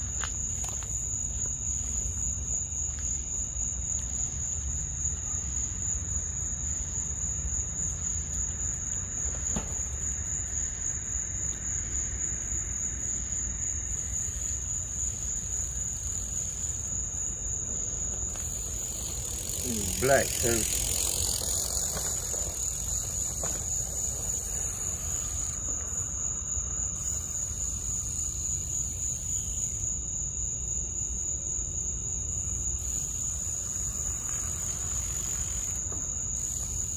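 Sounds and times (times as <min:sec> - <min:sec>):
crickets trilling: 0:00.0 - 0:36.9.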